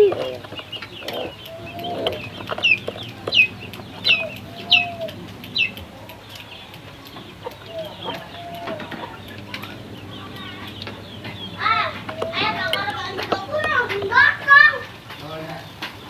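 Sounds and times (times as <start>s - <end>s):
high downward-sweeping bird chirps: 0.0s - 14.9s
low drawn-out bird calls: 0.0s - 16.0s.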